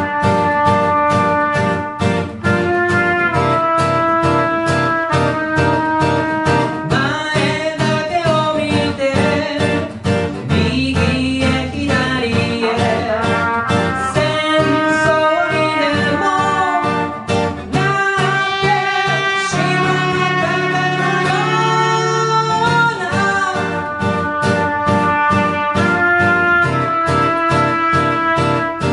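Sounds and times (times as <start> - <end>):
live band playing: 0.0 - 28.9.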